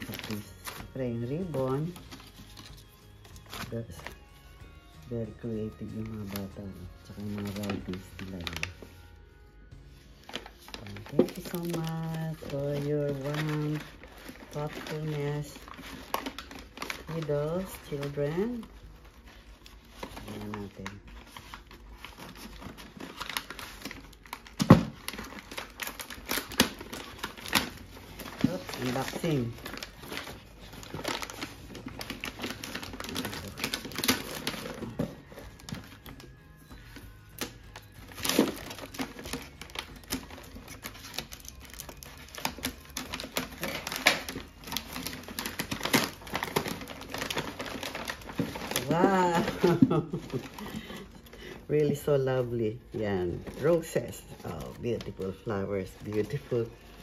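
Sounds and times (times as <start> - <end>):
gift wrapping paper rustling: 0.0 - 57.0.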